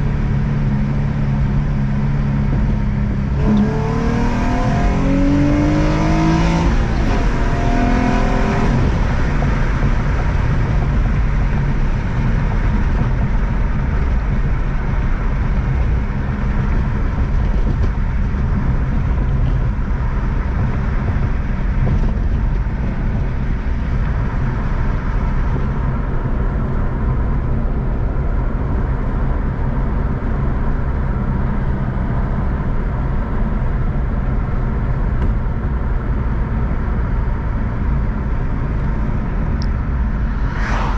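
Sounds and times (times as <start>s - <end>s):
car engine driving: 0.0s - 40.9s.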